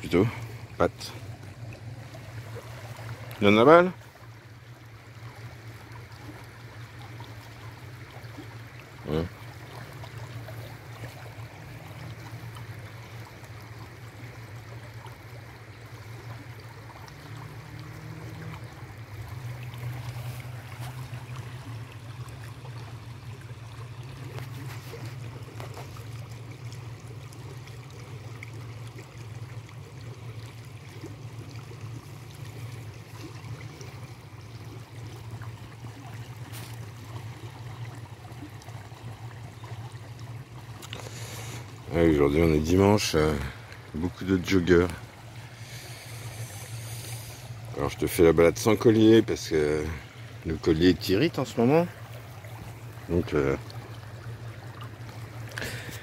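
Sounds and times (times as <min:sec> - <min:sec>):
stream rushing and trickling: 0:00.0 - 0:56.0.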